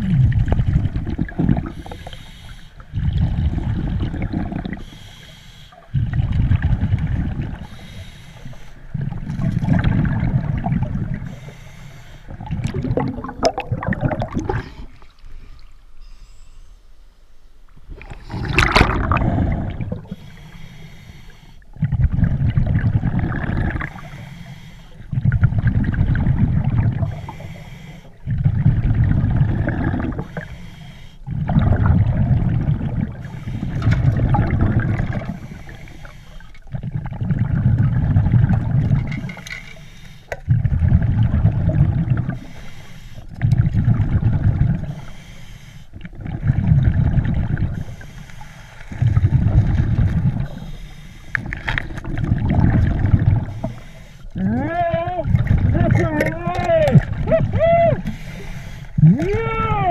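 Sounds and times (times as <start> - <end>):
underwater bubbles rumbling: 0.0 - 11.6, 12.2 - 15.6, 17.7 - 20.6, 21.6 - 24.3, 24.9 - 30.6, 31.2 - 39.6, 40.3 - 45.2, 45.9 - 59.9.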